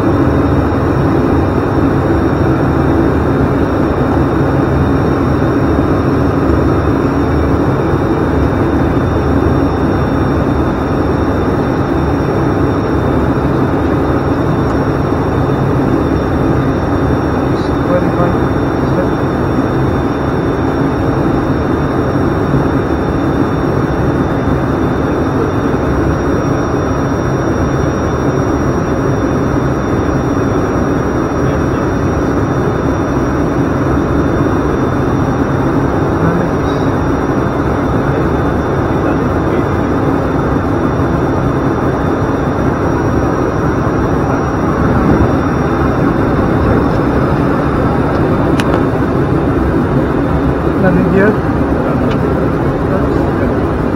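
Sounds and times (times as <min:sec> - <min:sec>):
high steady whines: 0:00.0 - 0:53.9
turboprop engines droning: 0:00.0 - 0:53.9.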